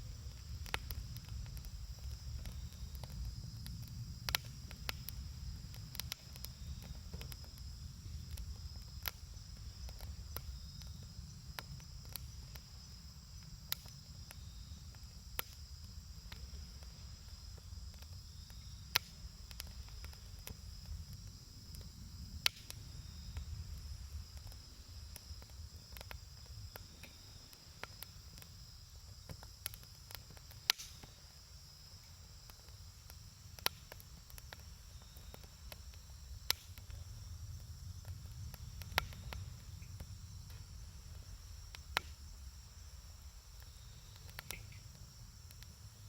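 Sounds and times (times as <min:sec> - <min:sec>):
campfire crackling: 0:00.0 - 0:46.0
crickets chirring: 0:00.0 - 0:46.0
sharp fire pops: 0:00.0 - 0:46.0.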